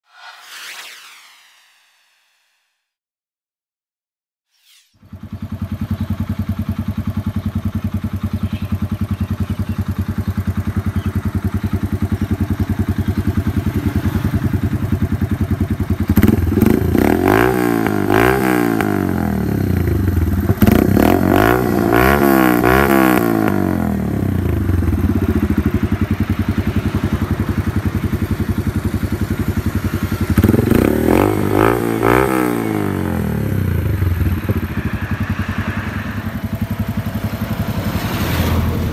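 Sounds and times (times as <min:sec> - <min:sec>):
motorcycle engine idling and revving: 0:05.0 - 0:38.9.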